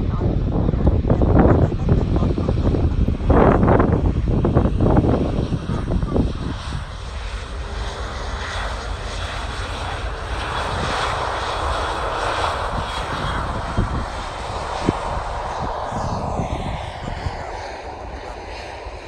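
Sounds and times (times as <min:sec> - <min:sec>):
airliner engines passing: 0:00.0 - 0:19.0.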